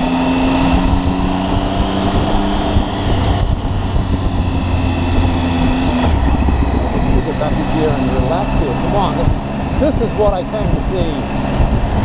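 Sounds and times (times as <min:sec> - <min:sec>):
motorcycle engine running: 0:00.0 - 0:12.0
wind noise: 0:00.0 - 0:12.0.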